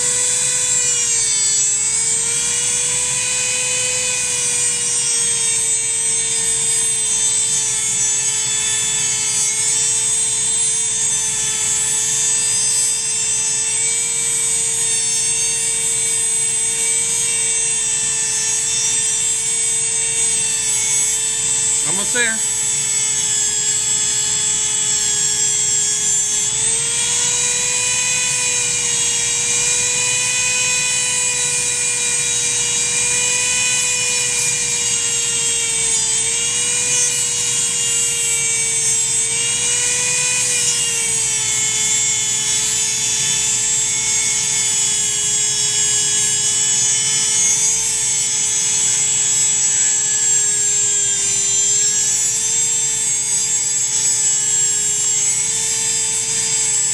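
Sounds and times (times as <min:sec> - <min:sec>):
rotary tool grinding wood: 0:00.0 - 0:56.9.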